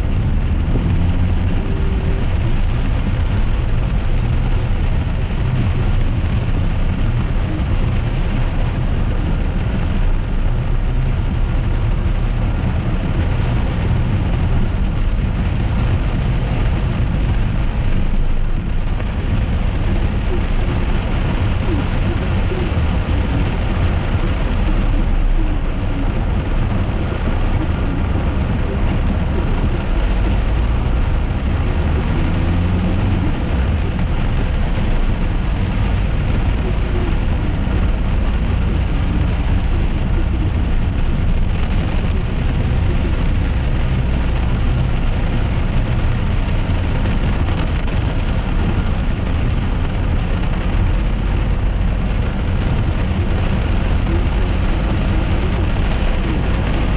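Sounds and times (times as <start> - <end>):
rain hitting car: 0.0 - 56.9
road and engine rumble: 0.0 - 56.9.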